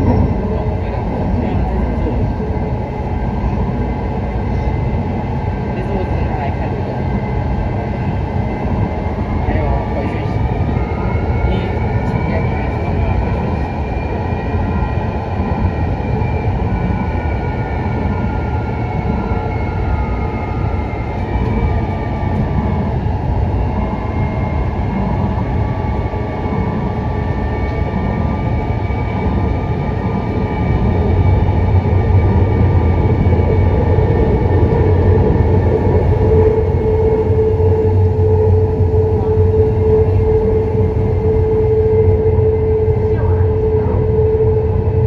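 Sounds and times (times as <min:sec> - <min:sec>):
metro train rolling rumble: 0:00.0 - 0:45.0
train whining tones: 0:00.0 - 0:45.0.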